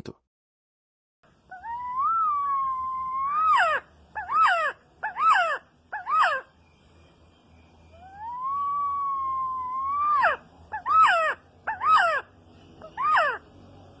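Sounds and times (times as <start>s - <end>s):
bird whistling calls: 1.5s - 13.5s.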